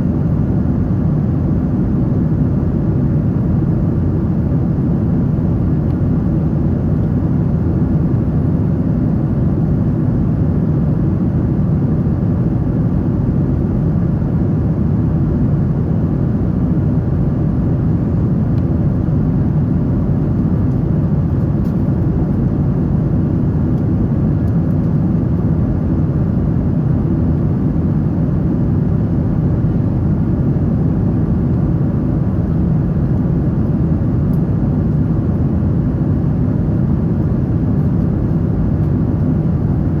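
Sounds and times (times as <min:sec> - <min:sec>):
airplane cabin engine rumble: 0:00.0 - 0:40.0.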